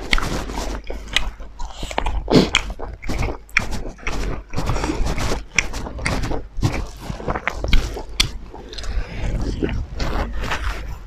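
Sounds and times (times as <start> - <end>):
people chewing and lip smacking: 0.0 - 11.0.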